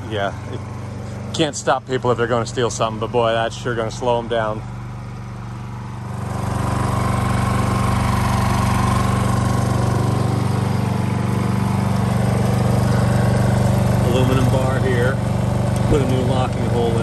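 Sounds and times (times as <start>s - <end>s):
generator engine hum: 0.0s - 17.0s.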